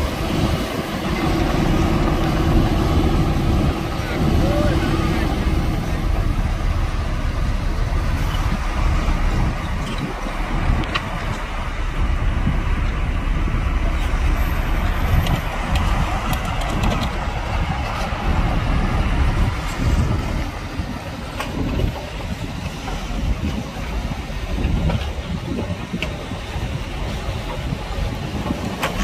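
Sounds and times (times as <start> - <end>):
heavy machinery engine rumble: 0.0 - 29.0.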